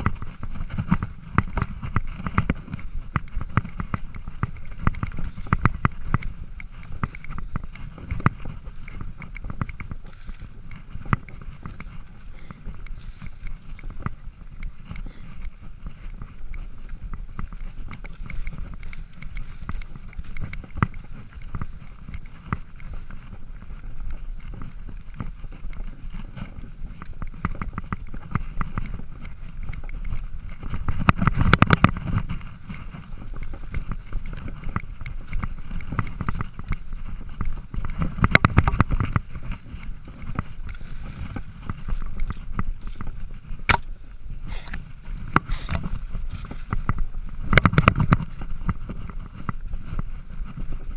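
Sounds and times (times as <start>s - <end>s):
bike rattling over bumps: 0.0s - 50.9s
knobby tyres rolling over trail: 0.0s - 50.9s
low wind rumble: 0.0s - 50.9s.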